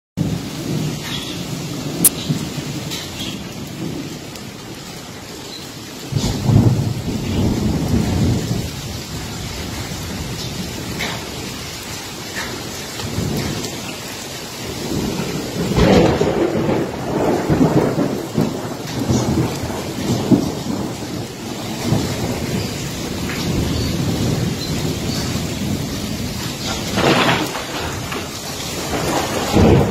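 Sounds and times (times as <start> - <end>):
thunder rumbling: 0.2 - 5.2, 6.0 - 29.9
heavy rain pouring: 0.2 - 29.9.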